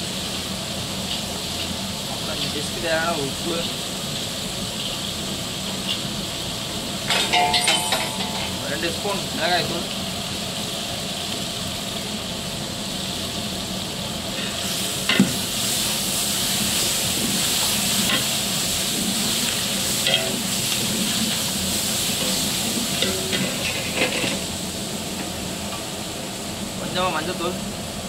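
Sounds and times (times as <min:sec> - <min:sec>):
masala sizzling in a pot: 0:00.0 - 0:28.0.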